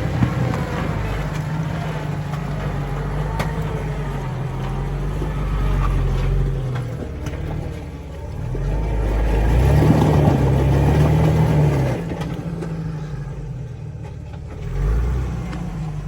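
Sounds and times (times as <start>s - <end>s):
jeep engine idling low: 0.0s - 16.0s.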